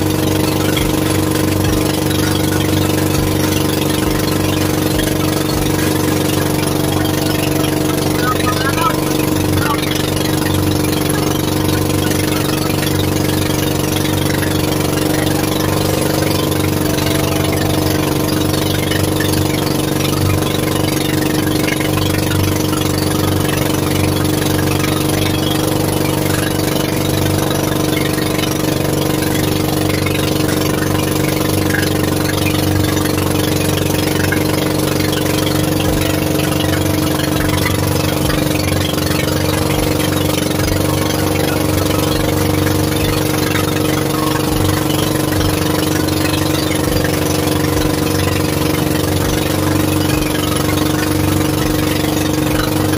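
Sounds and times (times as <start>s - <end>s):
boat engine running: 0.0s - 52.9s.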